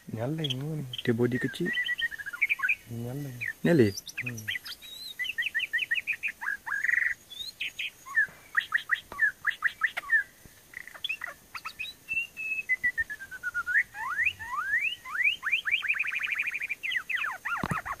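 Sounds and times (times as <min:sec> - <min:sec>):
bird singing whistles and chirps: 0:00.0 - 0:18.0.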